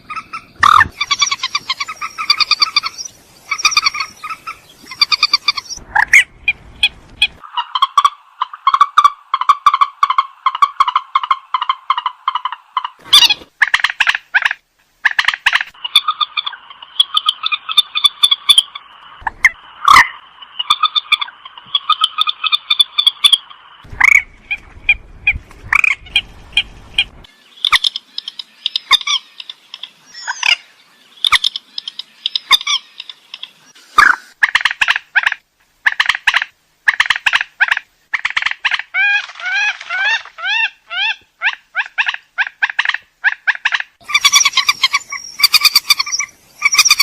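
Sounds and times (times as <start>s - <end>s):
rail bird calling: 0.0s - 47.0s.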